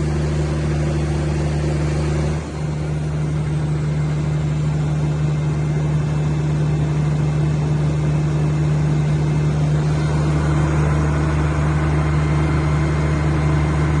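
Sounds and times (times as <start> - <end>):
diesel generator running: 0.0 - 14.0.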